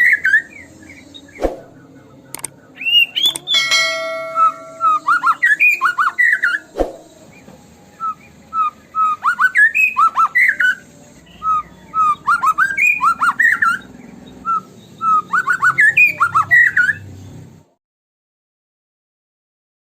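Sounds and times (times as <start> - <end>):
bird singing whistled notes: 0.0 - 17.2.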